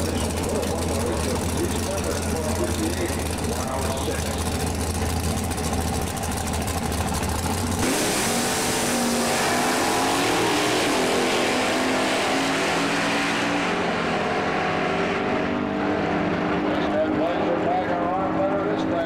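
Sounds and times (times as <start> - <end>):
drag racing car engine: 0.0 - 19.0.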